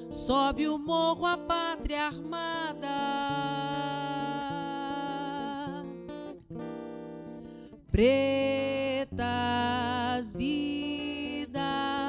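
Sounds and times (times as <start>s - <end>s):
person singing: 0.0s - 6.0s, 7.9s - 12.0s
acoustic guitar strumming: 0.0s - 12.0s.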